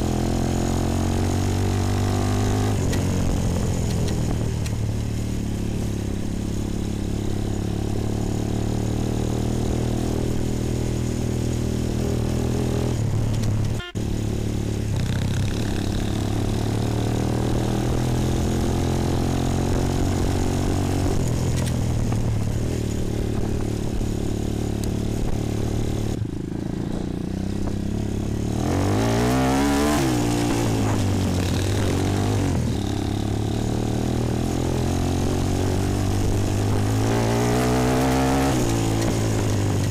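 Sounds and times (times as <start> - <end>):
quad engine running and revving: 0.0 - 39.9.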